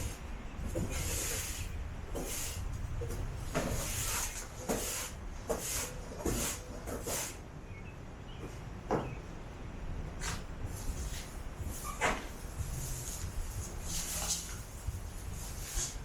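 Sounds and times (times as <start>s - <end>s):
broom sweeping: 0.0s - 7.4s, 10.2s - 16.0s.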